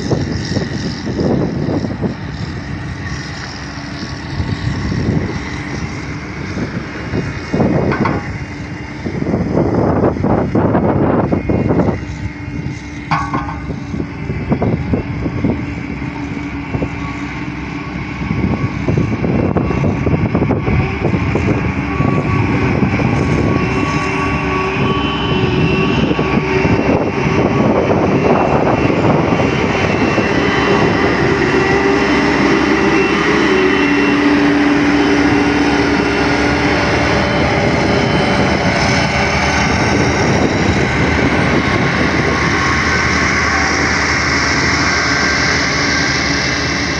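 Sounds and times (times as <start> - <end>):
heavy machinery diesel engine: 0.0 - 46.9.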